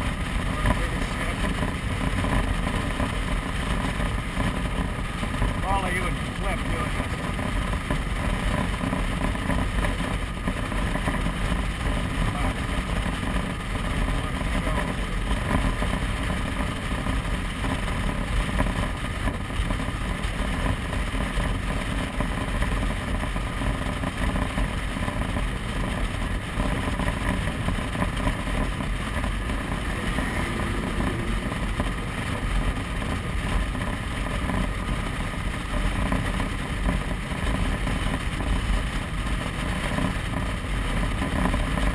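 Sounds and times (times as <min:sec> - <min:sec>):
motorcycle engine running: 0:00.0 - 0:41.9
road and wind noise: 0:00.0 - 0:41.9.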